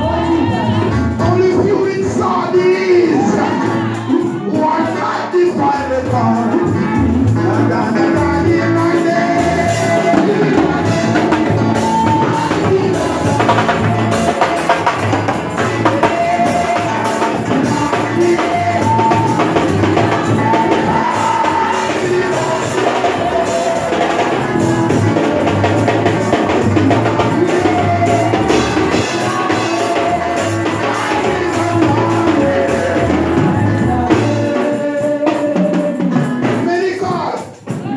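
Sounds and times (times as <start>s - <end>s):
drums: 0.0s - 37.9s
gospel singing: 0.0s - 37.9s.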